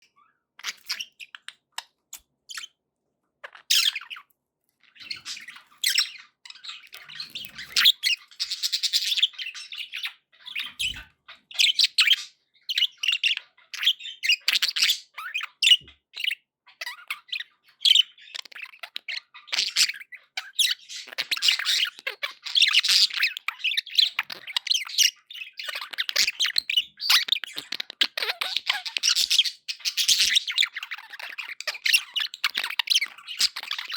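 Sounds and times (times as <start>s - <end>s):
budgies chirping and squawking: 0.0s - 2.8s, 3.4s - 33.9s.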